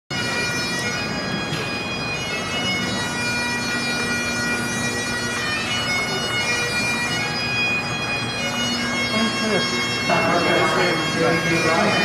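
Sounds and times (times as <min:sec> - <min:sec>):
bagpipes playing a tune: 0:00.1 - 0:12.0.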